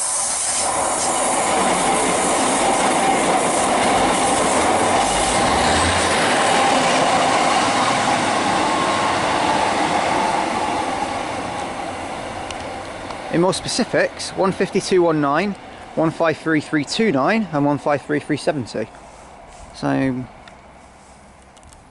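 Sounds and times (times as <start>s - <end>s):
diesel train passing: 0.0s - 21.9s
train wheels on rails: 0.0s - 21.9s.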